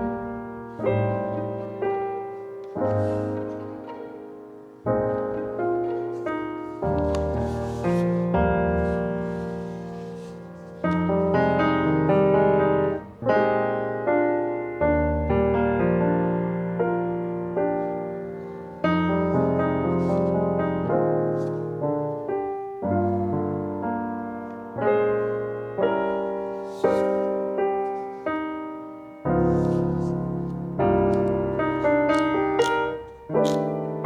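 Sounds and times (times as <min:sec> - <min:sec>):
gentle piano piece: 0:00.0 - 0:34.0.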